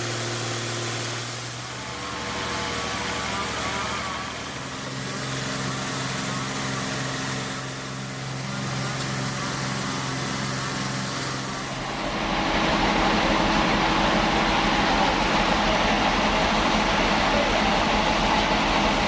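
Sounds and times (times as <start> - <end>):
band saw motor hum: 0.0 - 19.0.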